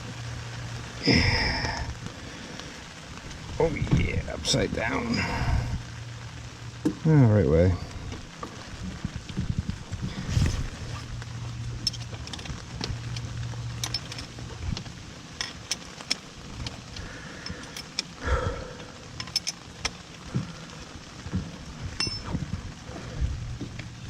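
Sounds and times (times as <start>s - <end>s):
low steady hum: 0.0s - 24.0s
rain falling: 0.0s - 24.0s.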